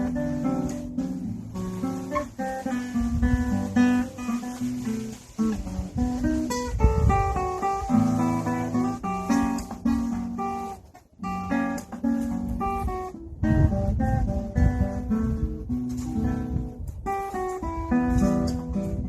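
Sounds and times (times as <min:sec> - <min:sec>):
acoustic guitar playing: 0:00.0 - 0:19.0
wind rumble on microphone: 0:00.0 - 0:19.0.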